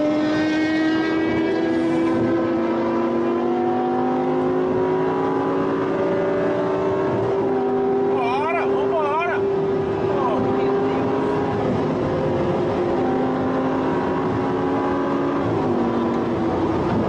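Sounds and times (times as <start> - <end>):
car engine accelerating: 0.0 - 17.0
wind and tyre noise: 0.0 - 17.0.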